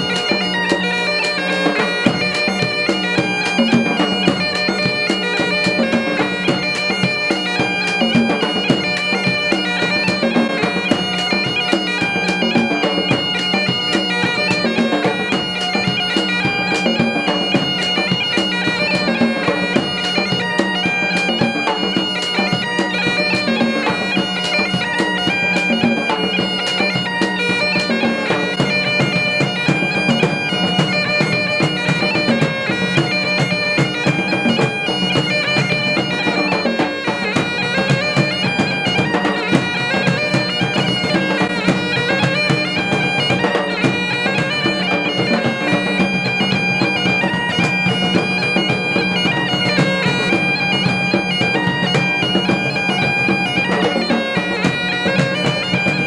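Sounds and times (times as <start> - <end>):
bagpipes playing: 0.0 - 56.0
drums beating: 0.0 - 56.0.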